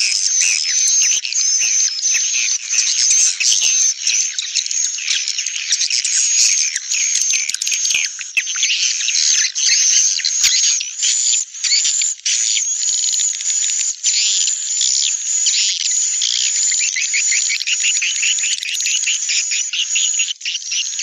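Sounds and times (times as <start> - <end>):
swiftlets chirping and twittering: 0.0 - 13.2, 14.2 - 21.0.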